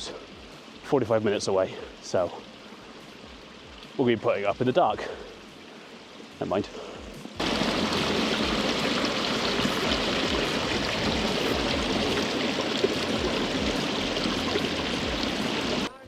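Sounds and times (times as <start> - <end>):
rushing mountain stream: 0.0 - 16.0.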